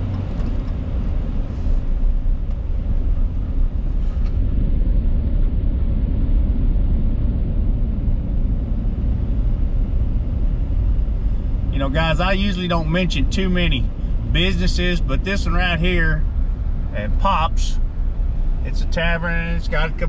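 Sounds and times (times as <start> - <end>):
car tyres and engine rumble: 0.0 - 20.0.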